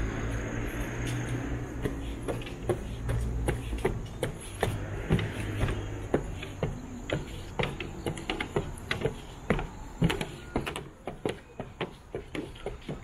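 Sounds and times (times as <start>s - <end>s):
footsteps walking: 0.0s - 13.0s.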